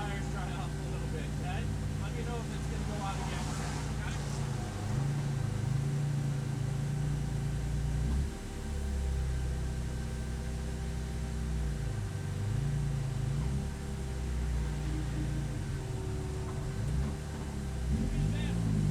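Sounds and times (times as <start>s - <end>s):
race car engine running: 0.0s - 18.9s.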